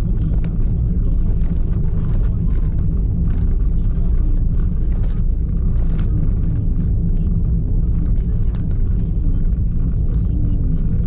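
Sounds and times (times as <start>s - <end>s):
vehicle rumbling along road: 0.0s - 11.0s.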